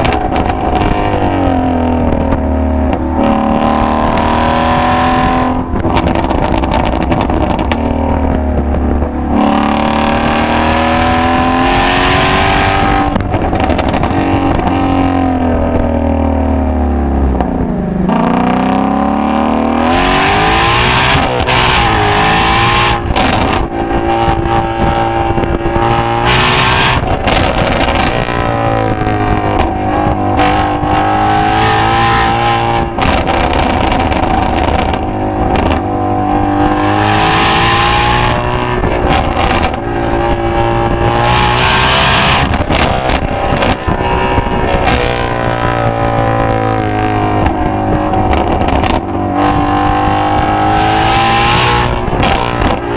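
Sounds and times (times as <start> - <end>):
car engine exhaust accelerating: 0.0 - 52.9.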